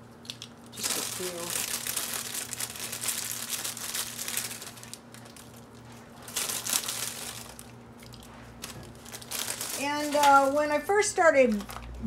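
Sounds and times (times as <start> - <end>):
plastic bag crinkling: 0.2 - 12.0.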